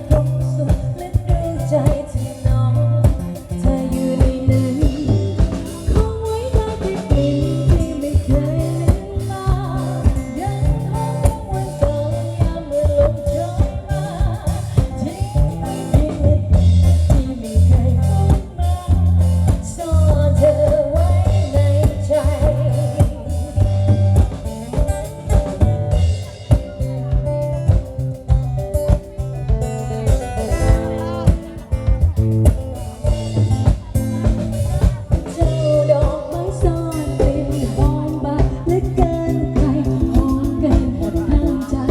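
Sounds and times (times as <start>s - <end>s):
person singing: 0.0s - 27.8s, 29.1s - 41.9s
band music: 0.0s - 41.9s.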